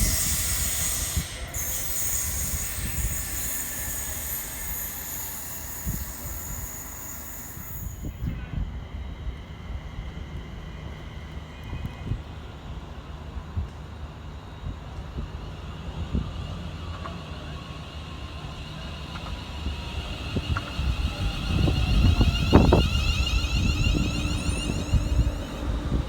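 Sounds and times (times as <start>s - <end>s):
train rumbling with high whine: 0.0s - 26.0s.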